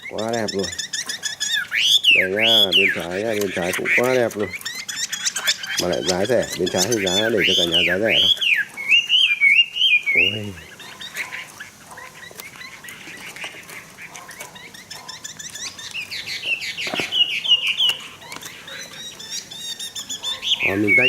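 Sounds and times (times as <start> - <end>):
loud rapid bird warbling: 0.0 - 21.0
songbirds calling and singing: 0.0 - 21.0.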